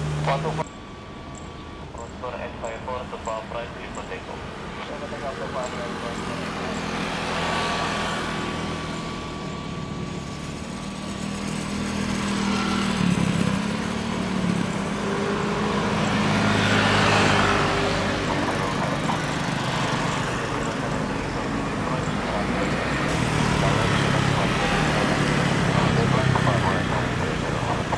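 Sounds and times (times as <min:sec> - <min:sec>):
distant jet engines humming: 0:00.0 - 0:27.9.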